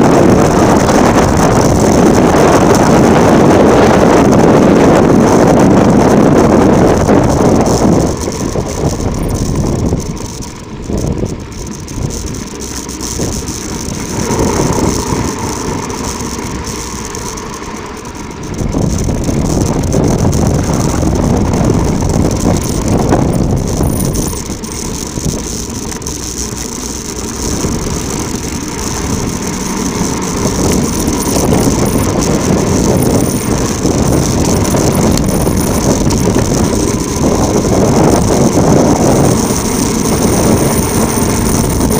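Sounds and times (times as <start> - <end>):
bicycle tyres rumbling on rough track: 0.0 - 41.9
wind rushing over microphone: 0.0 - 41.9.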